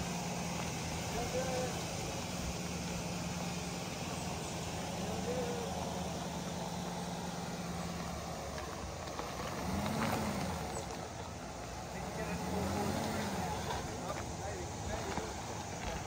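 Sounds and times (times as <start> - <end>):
pickup engine low hum: 0.0 - 16.0.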